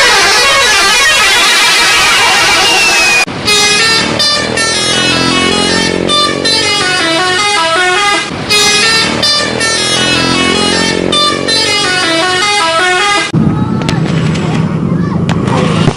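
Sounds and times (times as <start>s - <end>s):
bus multi-tone horn tune: 0.0s - 13.4s.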